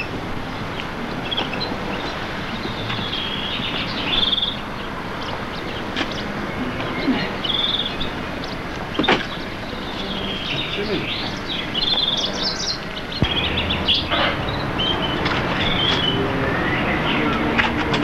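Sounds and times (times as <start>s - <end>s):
songbird chirping in trills: 0.0s - 18.0s
steady hiss: 0.0s - 18.0s.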